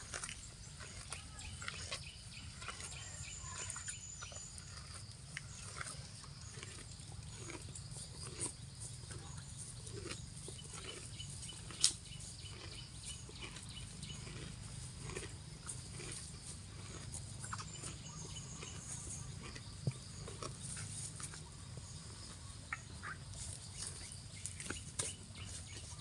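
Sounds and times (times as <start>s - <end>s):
cow chewing grass: 0.0s - 26.0s.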